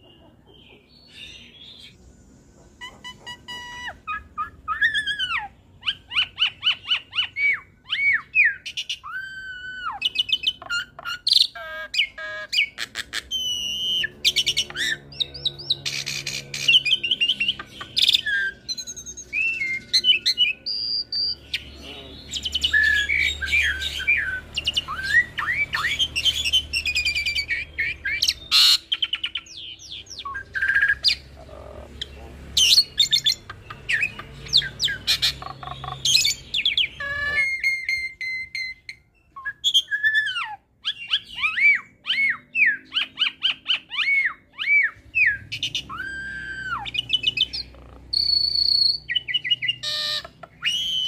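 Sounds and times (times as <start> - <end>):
starling singing varied song: 0.4 - 51.0.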